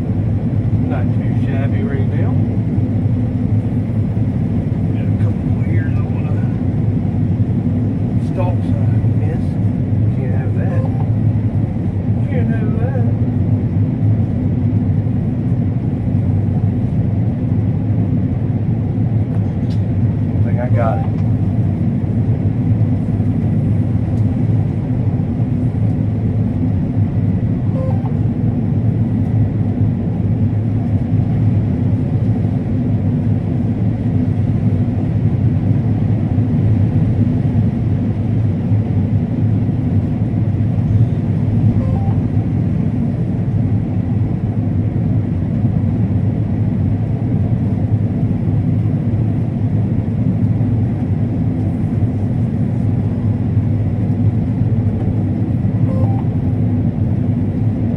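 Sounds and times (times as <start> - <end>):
combine harvester drone: 0.0 - 57.9.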